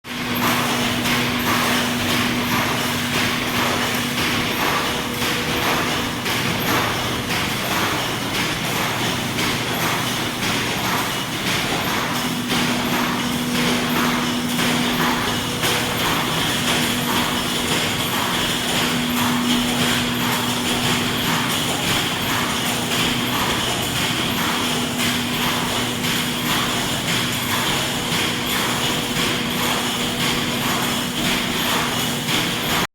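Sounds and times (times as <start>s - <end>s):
clattering machine noise: 0.0s - 32.9s
motor-pump hum: 0.1s - 32.9s.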